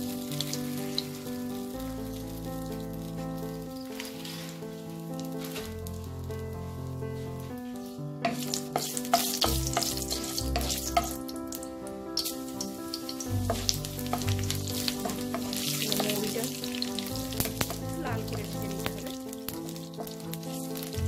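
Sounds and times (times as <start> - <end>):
seeds sprinkled into pan: 0.0 - 21.0
spices sizzling in hot oil: 0.0 - 21.0.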